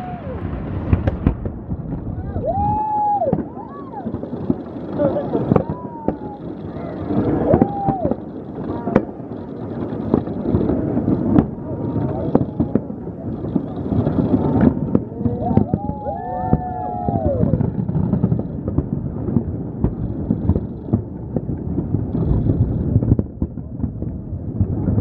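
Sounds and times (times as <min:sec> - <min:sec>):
fireworks bangs and crackles: 0:00.0 - 0:25.0
low rumble of fireworks booms: 0:00.0 - 0:25.0.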